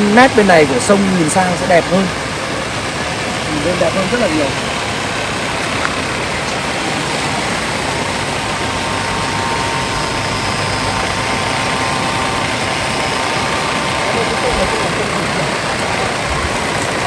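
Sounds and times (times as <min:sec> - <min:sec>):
stream water rushing over weir: 0:00.0 - 0:17.0.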